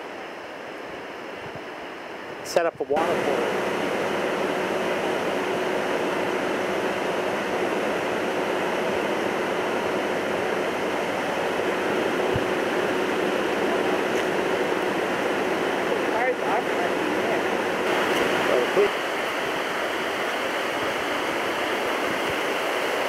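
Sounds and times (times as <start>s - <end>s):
flooded river rushing over falls: 0.0s - 23.0s.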